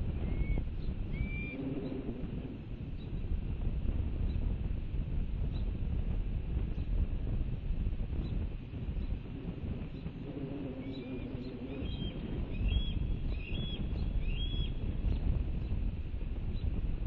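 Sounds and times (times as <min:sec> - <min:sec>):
wind on the microphone: 0:00.0 - 0:17.0.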